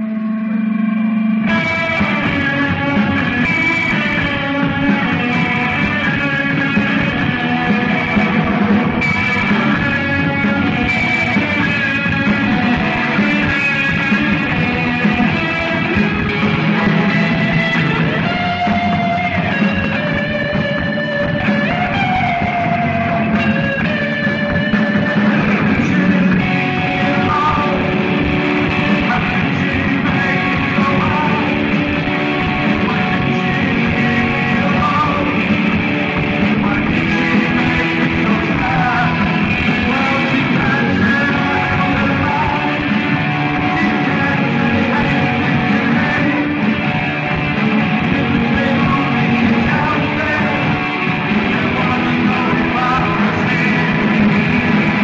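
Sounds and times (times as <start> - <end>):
bass guitar: 0.0 - 55.0
drum kit: 0.0 - 55.0
electric guitar: 0.0 - 55.0
voice at microphone: 1.4 - 55.0.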